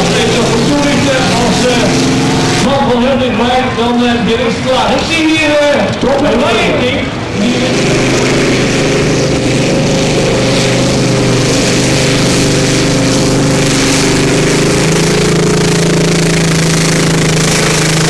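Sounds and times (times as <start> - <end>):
tractor engine running flat out: 0.0 - 18.0.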